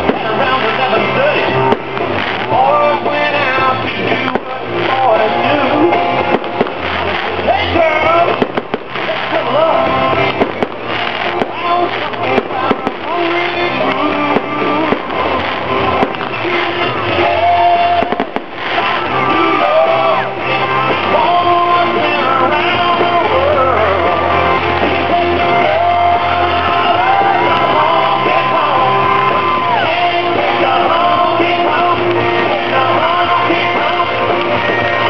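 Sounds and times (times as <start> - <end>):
fireworks bangs: 0.0 - 35.0
rock song with singing: 0.0 - 35.0.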